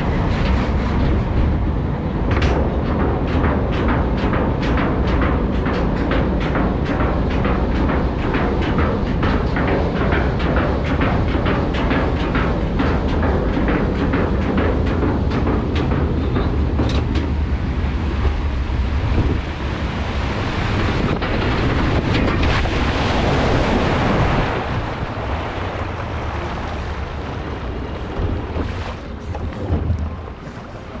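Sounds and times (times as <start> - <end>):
water rushing: 0.0 - 4.6, 5.5 - 31.0
lift hill clicking: 0.0 - 25.3
boat splashing down: 0.0 - 31.0
wind on microphone: 0.0 - 31.0.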